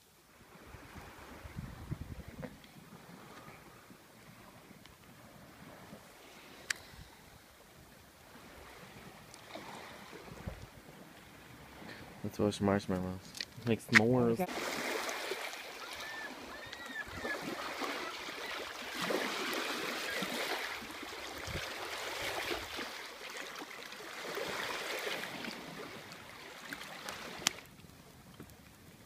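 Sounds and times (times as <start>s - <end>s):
small waves lapping shore: 0.0s - 29.0s.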